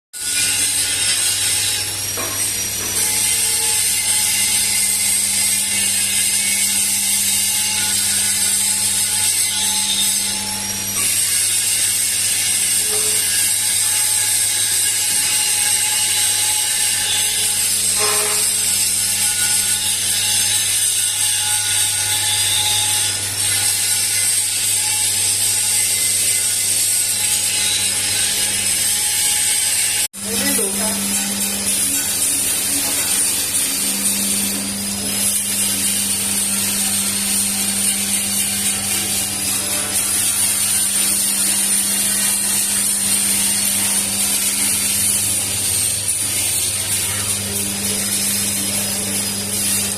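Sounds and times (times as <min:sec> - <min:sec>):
machine mechanical hum: 0:00.2 - 0:49.9.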